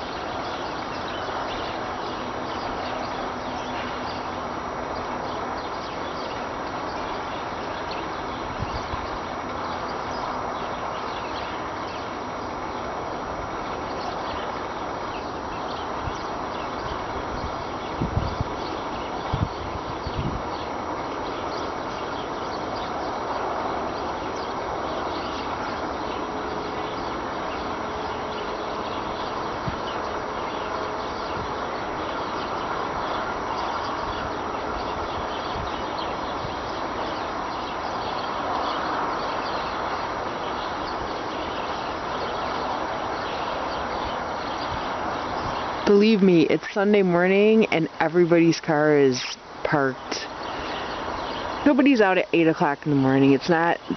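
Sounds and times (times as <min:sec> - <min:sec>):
steady rushing roar: 0:00.0 - 0:53.9.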